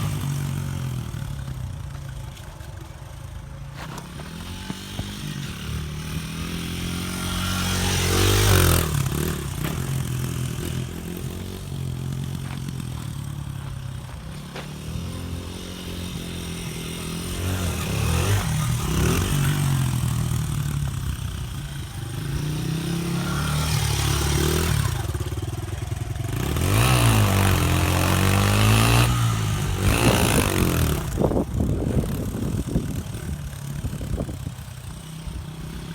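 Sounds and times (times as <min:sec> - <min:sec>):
motorbike engine revving: 0:00.0 - 0:35.9.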